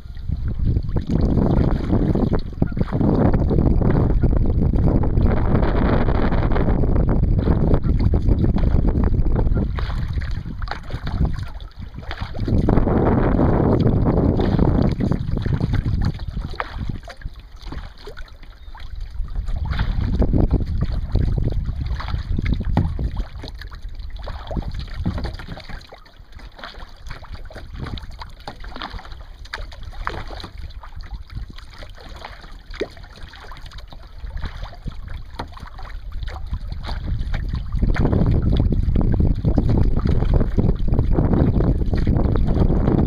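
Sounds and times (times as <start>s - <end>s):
water splashes and drips: 0.0s - 4.2s, 7.0s - 43.0s
wind buffeting microphone: 0.0s - 43.0s.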